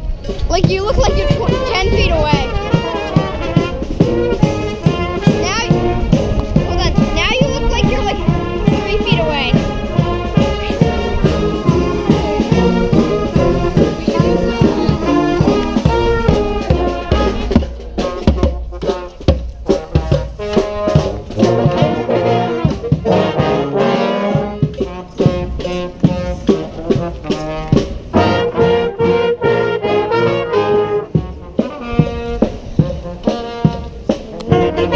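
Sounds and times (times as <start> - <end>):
brass band playing rock: 0.0 - 34.9
steady drum beat: 0.0 - 34.9.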